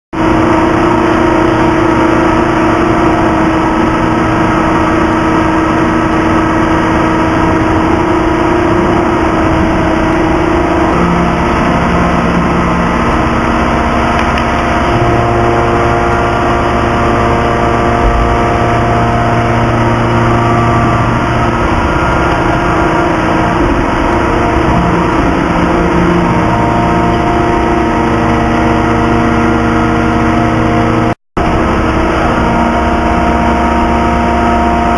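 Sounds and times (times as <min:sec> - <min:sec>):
hydraulic press hum and whine: 0:00.2 - 0:34.9.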